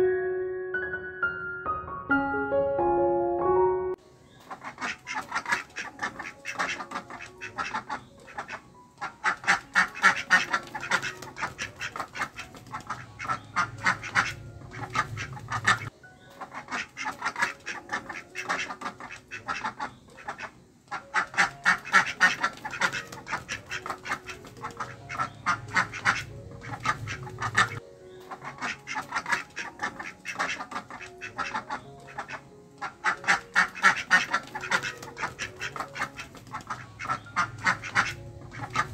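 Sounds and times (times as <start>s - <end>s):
ducks quacking: 4.4s - 38.9s.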